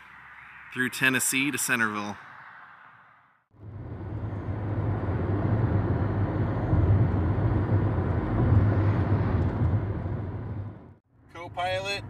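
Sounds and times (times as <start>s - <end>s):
car engine and tyre drone: 0.0s - 1.2s, 2.2s - 12.0s.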